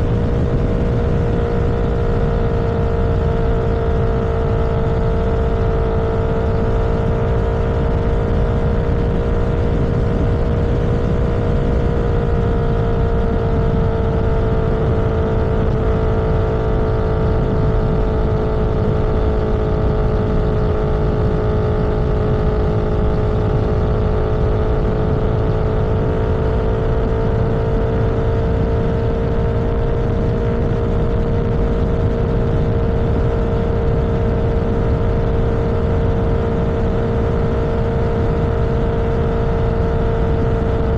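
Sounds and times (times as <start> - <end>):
vehicle engine cruising: 0.0 - 40.9
wind and road noise: 0.0 - 40.9.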